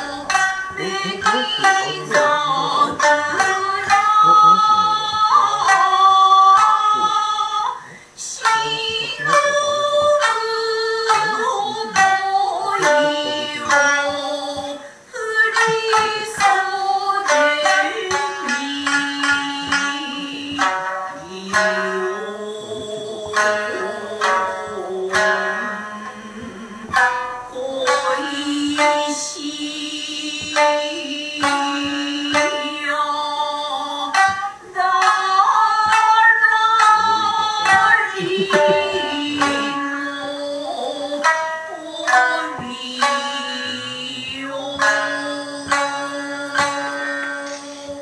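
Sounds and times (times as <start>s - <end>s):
person singing long notes: 0.0s - 48.0s
shamisen plucked notes: 0.0s - 48.0s.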